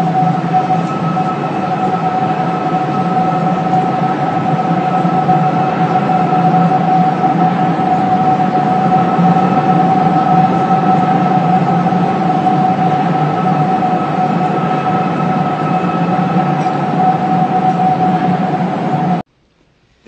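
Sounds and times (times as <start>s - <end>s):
building humming steady tone: 0.0s - 19.3s
constant rushing noise: 0.0s - 19.3s.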